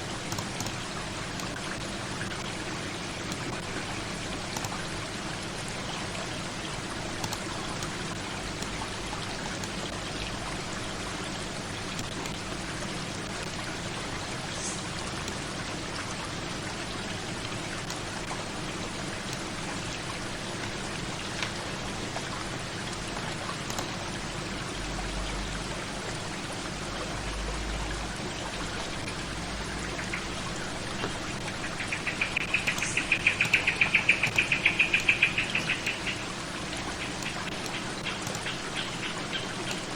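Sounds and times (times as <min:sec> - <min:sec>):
rain: 0:00.0 - 0:39.9.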